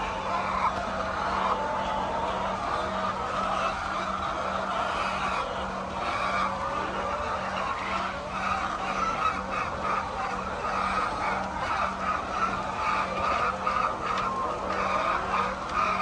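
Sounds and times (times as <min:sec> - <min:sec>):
poultry squawking and clucking: 0:00.0 - 0:16.0.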